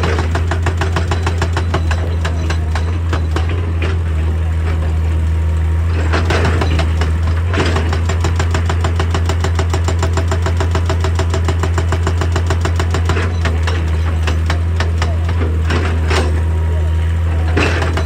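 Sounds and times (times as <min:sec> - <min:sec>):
diesel engine running: 0:00.0 - 0:18.0
hydraulic breaker hammering rock: 0:00.0 - 0:18.0.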